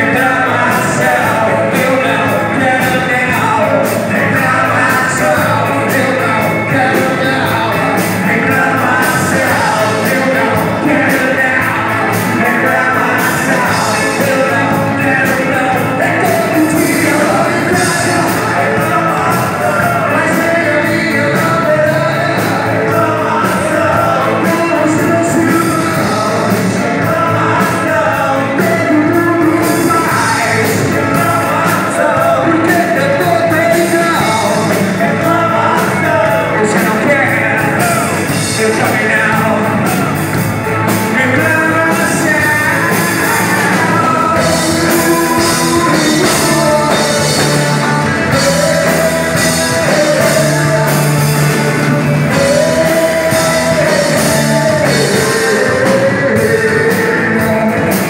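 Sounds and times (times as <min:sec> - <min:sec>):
live rock band playing: 0:00.0 - 0:58.0
man singing: 0:00.0 - 0:58.0.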